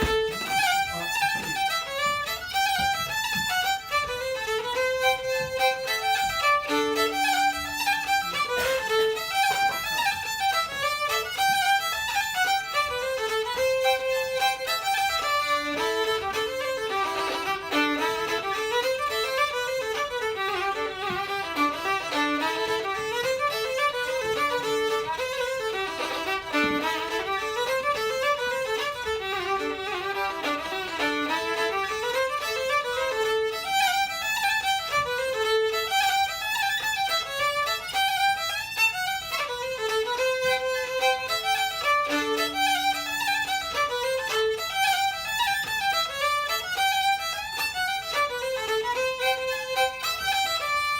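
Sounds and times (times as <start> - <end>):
fiddle playing a fast reel: 0.0 - 50.9.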